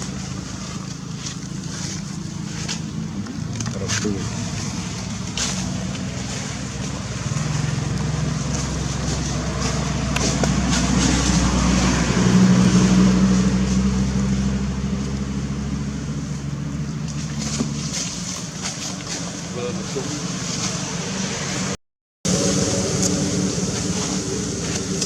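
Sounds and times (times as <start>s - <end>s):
motor engine running: 0.0s - 21.7s, 22.3s - 25.0s.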